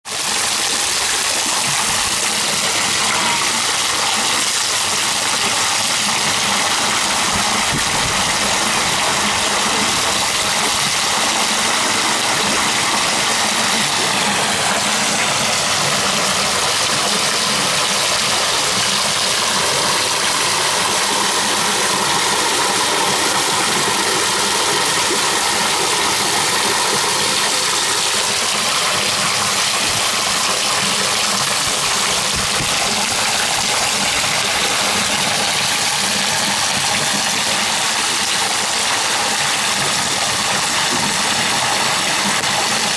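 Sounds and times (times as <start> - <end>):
waterfall splashing into pond: 0.0 - 42.9.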